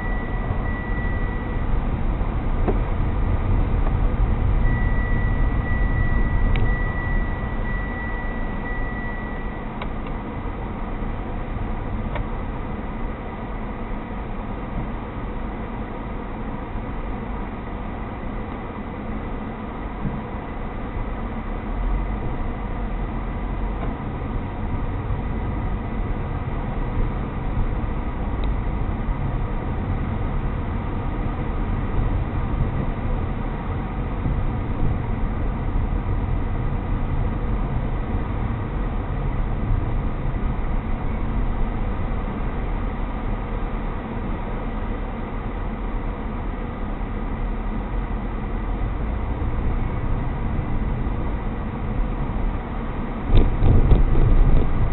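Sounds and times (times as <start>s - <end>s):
car road and engine rumble: 0.0s - 54.9s
thin steady whine: 0.0s - 54.9s.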